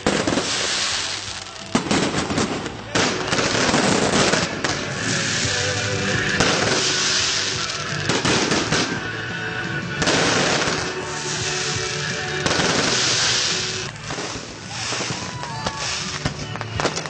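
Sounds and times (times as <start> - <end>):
background music: 0.0 - 17.0
fireworks bangs and crackle: 0.0 - 17.0.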